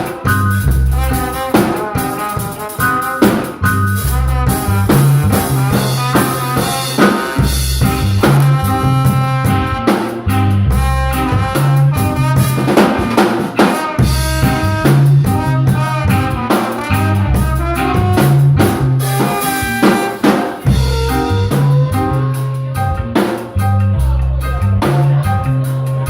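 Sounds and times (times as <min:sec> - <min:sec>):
band playing instrumental music: 0:00.0 - 0:26.0
drum kit beat: 0:00.0 - 0:26.0.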